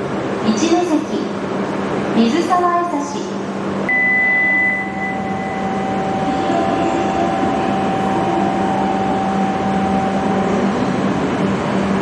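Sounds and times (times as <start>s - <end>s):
train running rumble and hiss: 0.0s - 3.9s, 5.0s - 12.0s
steady high whine: 1.1s - 12.0s.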